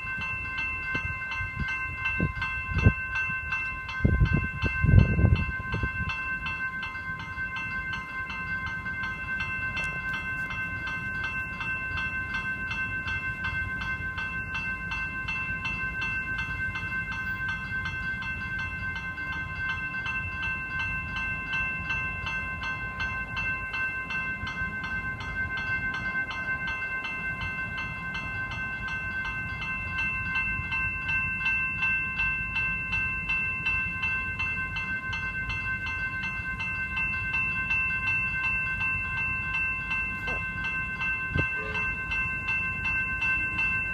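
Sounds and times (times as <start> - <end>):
level crossing bells ringing: 0.0 - 43.9.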